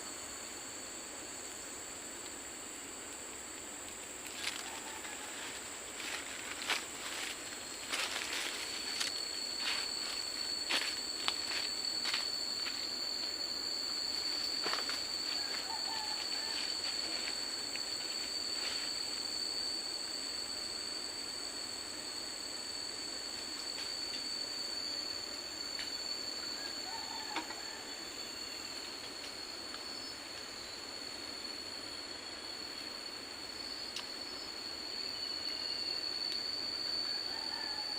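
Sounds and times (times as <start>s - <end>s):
high-pitched insect drone: 0.0s - 37.9s.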